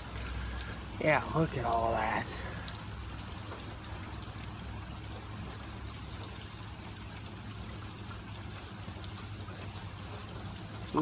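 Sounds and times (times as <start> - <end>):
water pouring and trickling: 0.0 - 11.0.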